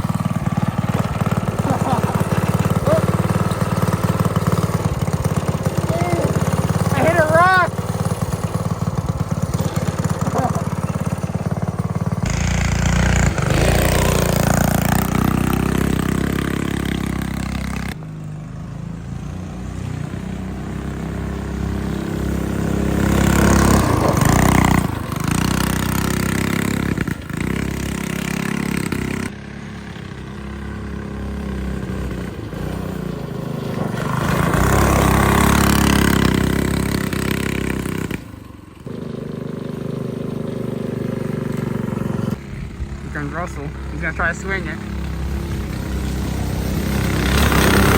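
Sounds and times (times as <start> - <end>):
small engine revving: 0.0 - 47.9.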